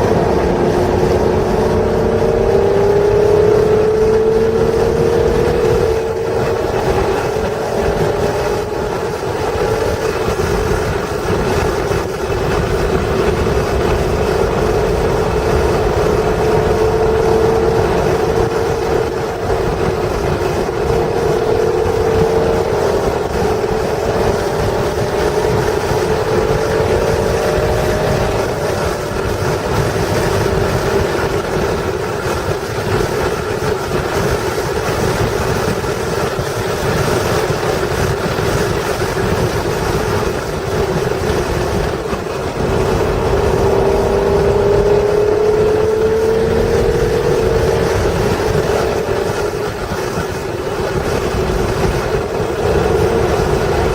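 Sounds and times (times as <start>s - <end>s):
car engine at speed: 0.0s - 53.9s
wind and road noise: 0.0s - 53.9s.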